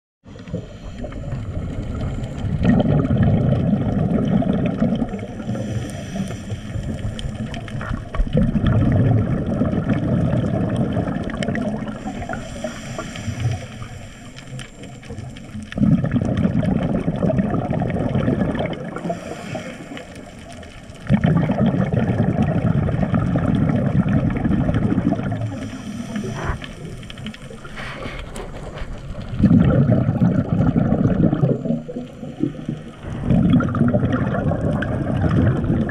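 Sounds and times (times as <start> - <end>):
faint underwater hiss: 0.3 - 8.3, 9.2 - 35.9
underwater bubble surges: 0.3 - 35.9.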